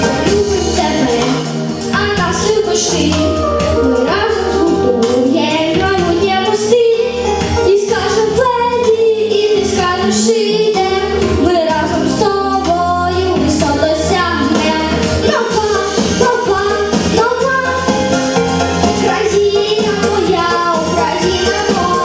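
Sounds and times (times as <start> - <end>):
instrumental backing track with beat: 0.0 - 22.0
person singing: 0.0 - 22.0.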